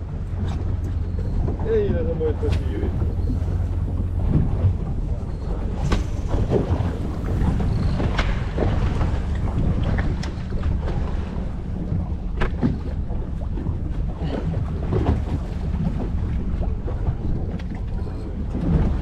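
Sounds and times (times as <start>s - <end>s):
boat engine rumble: 0.0s - 19.0s
wind on microphone: 0.0s - 19.0s.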